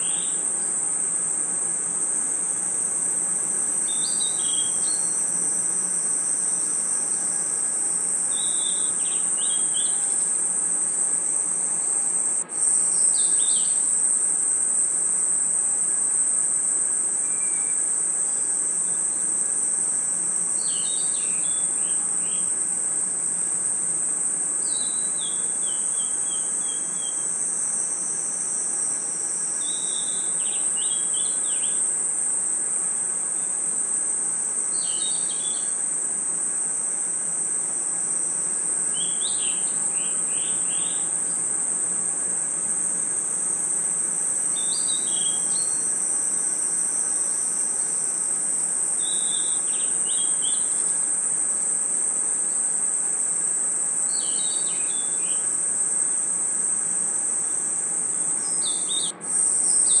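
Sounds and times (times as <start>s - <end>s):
crickets trilling: 0.0s - 60.0s.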